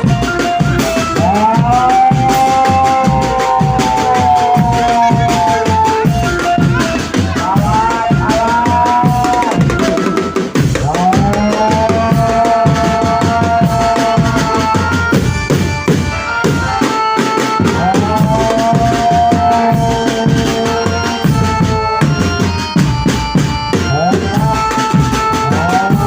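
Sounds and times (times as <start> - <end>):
fast hand drums and percussion: 0.0 - 26.0.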